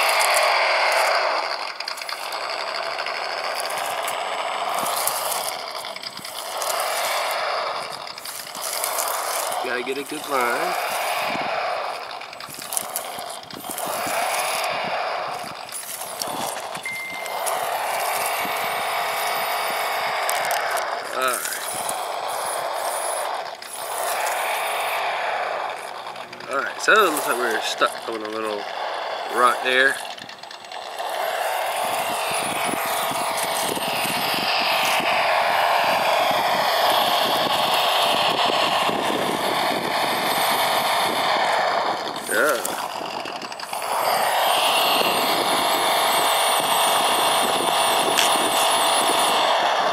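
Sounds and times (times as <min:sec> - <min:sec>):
engine sound module revving: 0:00.0 - 0:49.9
small electric motor whine: 0:00.0 - 0:49.9.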